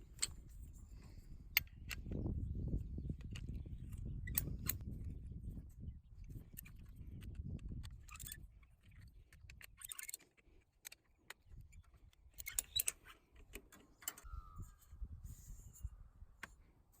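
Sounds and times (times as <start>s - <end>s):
clicks and rustles of handling: 0.0s - 14.3s.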